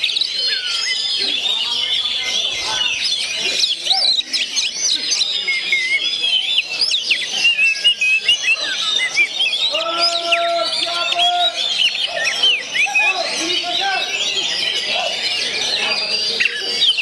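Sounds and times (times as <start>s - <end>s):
songbird singing chirps and whistles: 0.0s - 17.0s.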